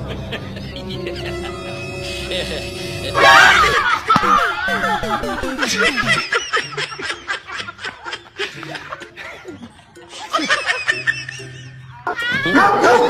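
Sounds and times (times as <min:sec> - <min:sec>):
background music: 0:00.0 - 0:13.0
bursts of laughter: 0:00.0 - 0:13.0.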